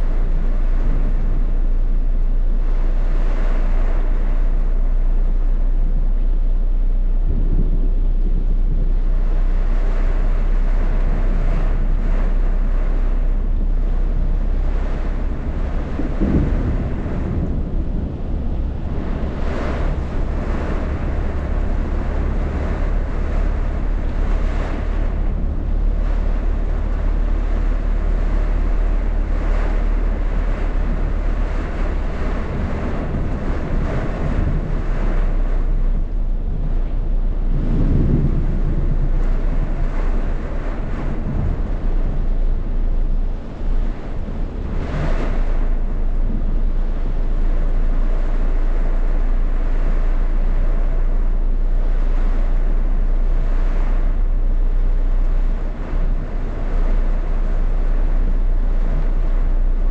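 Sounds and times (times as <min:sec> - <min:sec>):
gusting wind: 0:00.0 - 0:59.9
wind rumbling on microphone: 0:00.0 - 0:59.9
heavy rain: 0:09.2 - 0:59.9.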